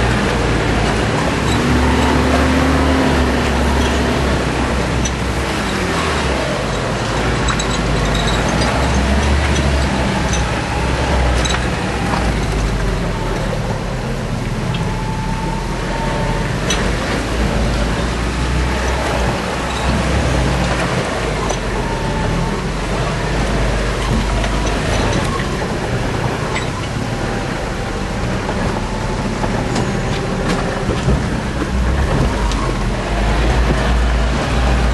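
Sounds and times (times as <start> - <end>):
knocks and rattles over bumps: 0.0 - 34.9
truck engine rumbling: 0.0 - 34.9.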